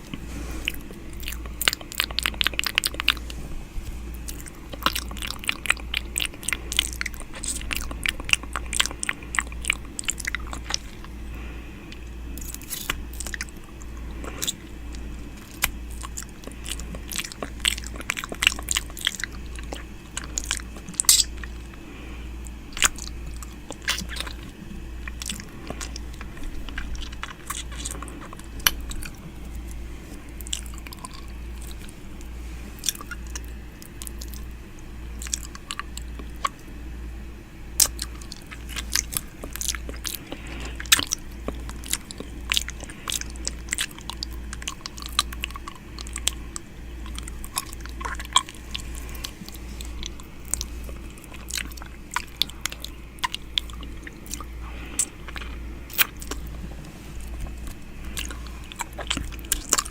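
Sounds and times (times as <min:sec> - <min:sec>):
low pulsing hum: 0:00.0 - 0:59.9.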